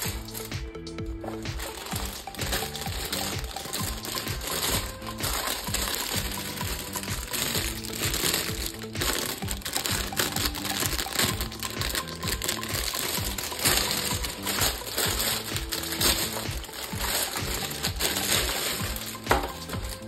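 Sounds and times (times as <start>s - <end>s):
background music with steady beat: 0.0s - 20.0s
plastic packaging crinkling: 0.0s - 20.0s.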